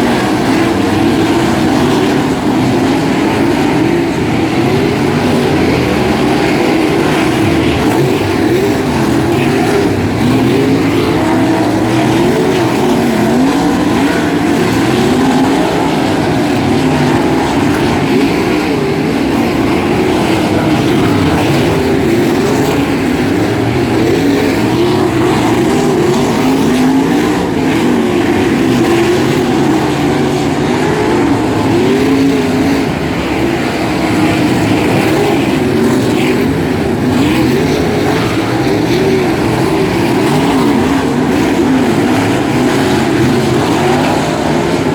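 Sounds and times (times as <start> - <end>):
race car engines: 0.0 - 44.9.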